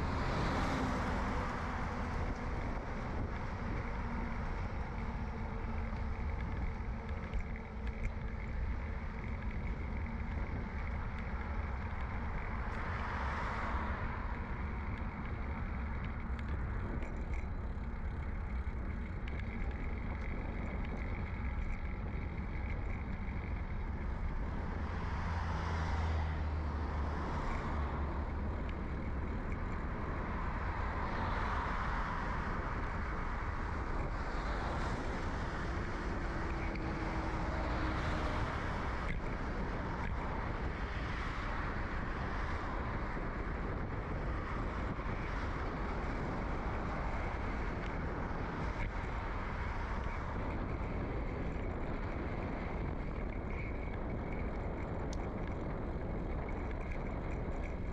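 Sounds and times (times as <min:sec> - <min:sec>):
bicycle rolling on road: 0:00.0 - 0:57.9
road traffic: 0:00.0 - 0:57.9.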